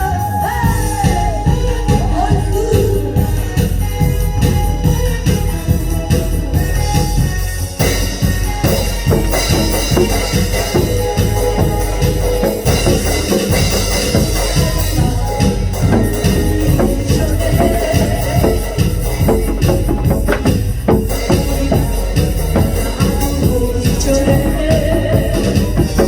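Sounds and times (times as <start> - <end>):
drum-kit beat: 0.0 - 26.0
held keyboard notes: 0.8 - 26.0.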